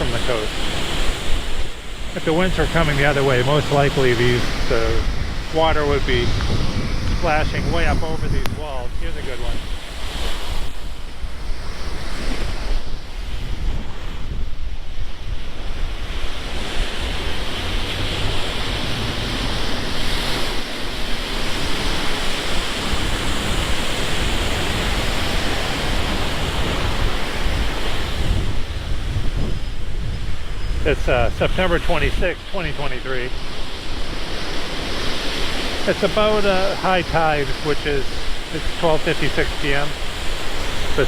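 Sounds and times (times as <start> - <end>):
surf washing against seawall: 0.0 - 41.0
wind buffeting microphone: 0.0 - 41.0.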